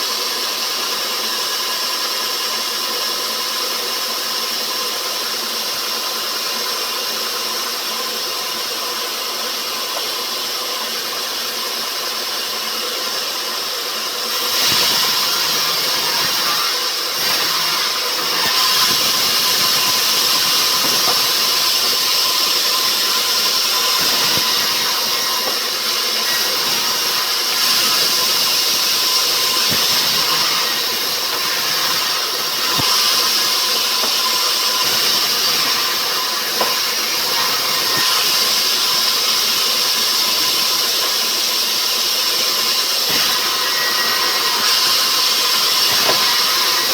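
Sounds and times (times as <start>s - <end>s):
sawmill machinery hum and whine: 0.0s - 46.9s.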